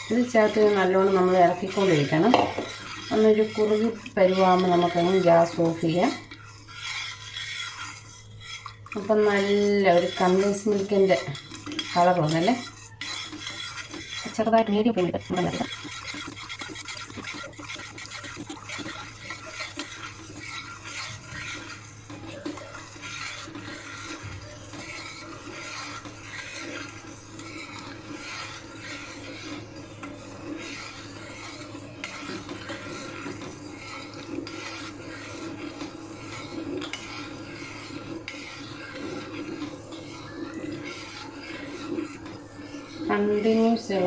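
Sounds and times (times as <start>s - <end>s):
spoon stirring and scraping a pan: 0.0s - 44.0s.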